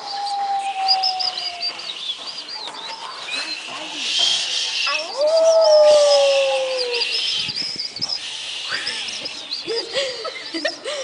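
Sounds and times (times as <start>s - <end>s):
high bird chirping: 0.0s - 10.0s.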